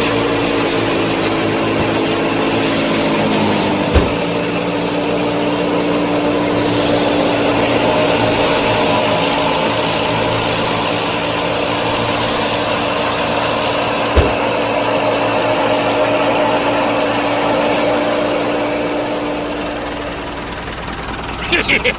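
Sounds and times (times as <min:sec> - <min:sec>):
small motor humming: 0:00.0 - 0:21.9.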